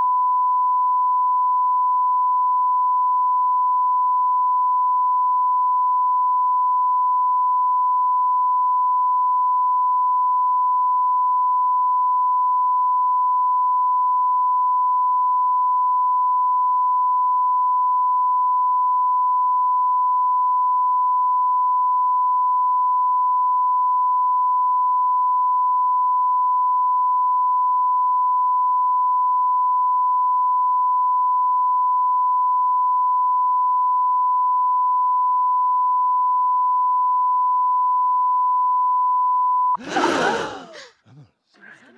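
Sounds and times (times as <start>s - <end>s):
censor bleep tone: 0.0s - 39.8s.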